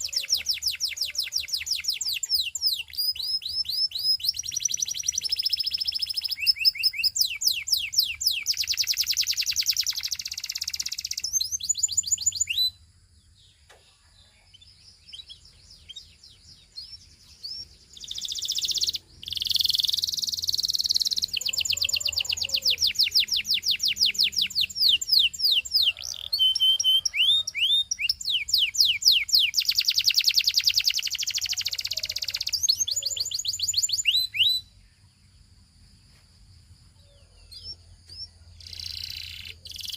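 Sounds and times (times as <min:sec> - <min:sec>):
canary singing trills: 0:00.0 - 0:35.3, 0:36.9 - 0:39.9.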